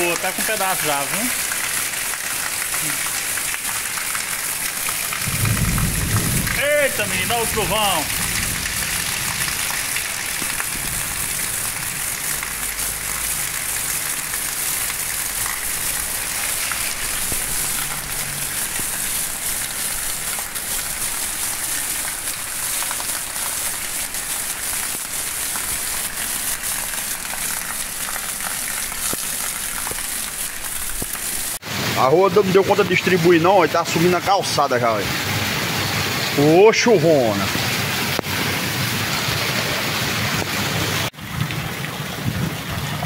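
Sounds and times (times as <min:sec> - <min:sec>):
heavy rain on pavement: 0:00.0 - 0:43.0.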